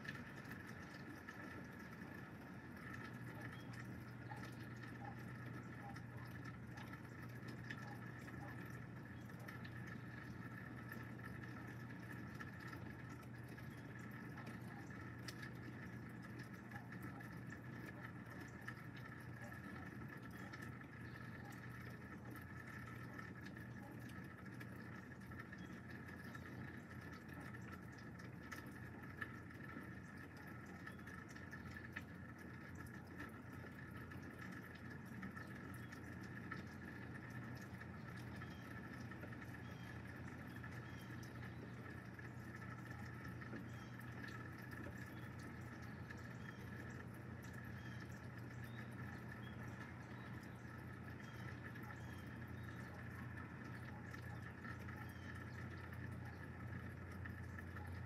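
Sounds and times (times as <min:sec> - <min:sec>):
raindrops ticking on glass: 0:00.0 - 0:58.0.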